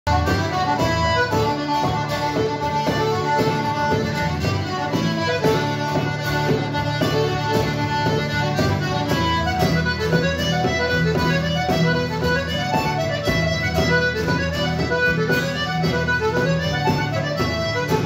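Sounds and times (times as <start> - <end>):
accordion melody: 0.0 - 18.0
acoustic guitar accompaniment: 0.1 - 18.0.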